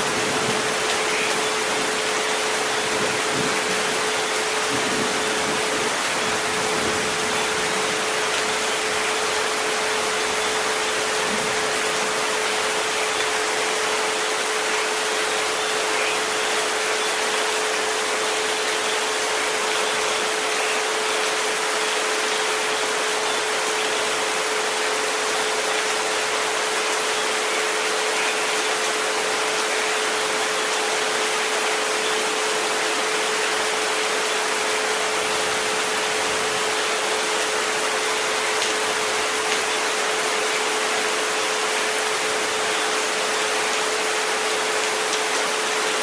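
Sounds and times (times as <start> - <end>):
rain hiss: 0.0 - 46.0.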